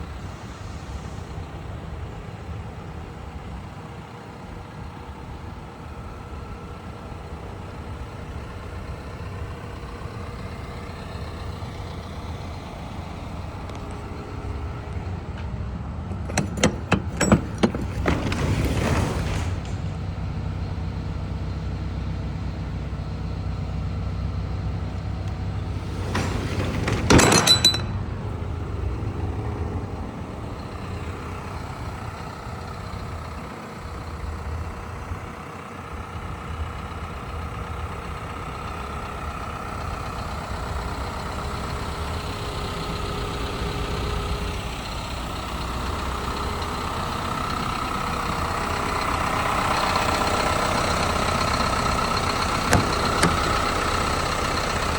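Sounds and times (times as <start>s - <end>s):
truck engine running: 0.0s - 54.9s.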